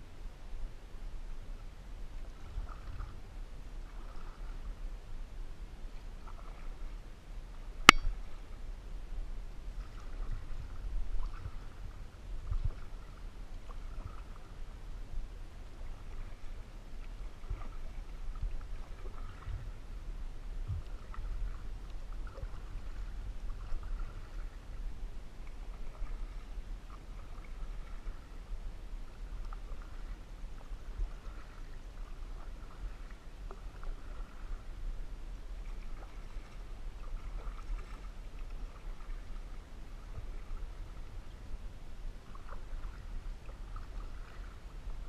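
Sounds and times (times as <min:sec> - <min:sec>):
paddle strokes in water: 0:01.2 - 0:45.0.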